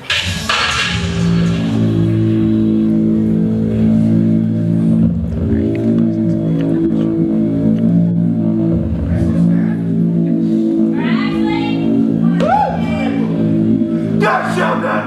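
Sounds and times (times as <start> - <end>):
slow instrumental chord melody: 0.1 - 12.4, 13.0 - 15.0.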